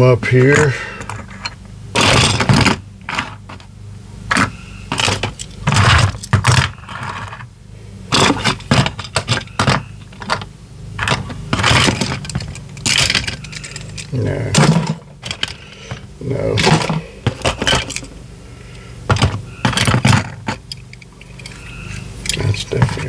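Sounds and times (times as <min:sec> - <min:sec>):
toy cars clinking in cardboard box: 0:00.5 - 0:03.6, 0:04.3 - 0:07.4, 0:08.1 - 0:16.0, 0:16.6 - 0:18.1, 0:19.1 - 0:23.0.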